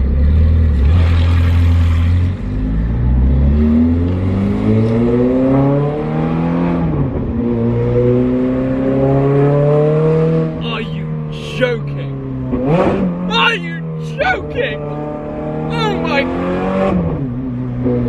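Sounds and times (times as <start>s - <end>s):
car engine accelerating hard: 0.0s - 11.5s, 12.1s - 18.0s.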